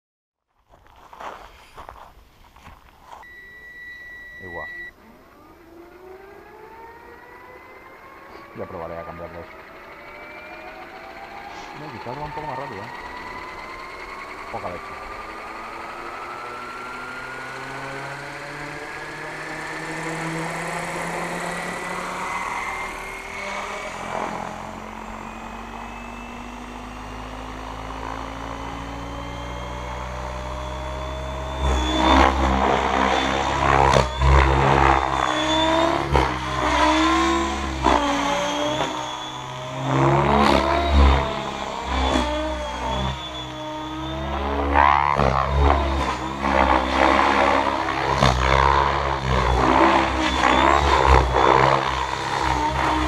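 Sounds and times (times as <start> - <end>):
rc helicopter rotor and motor: 2.8 - 53.0.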